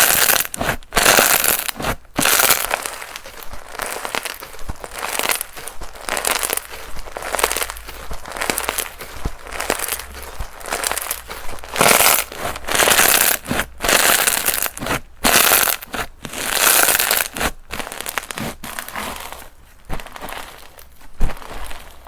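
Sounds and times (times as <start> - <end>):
slime crackling as kneaded: 0.0 - 22.0.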